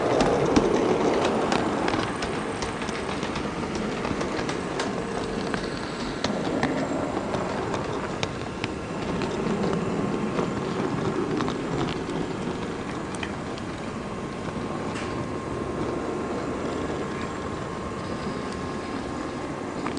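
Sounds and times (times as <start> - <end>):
irregular track clicks: 0.0 - 19.9
model train motor hum: 0.0 - 19.9.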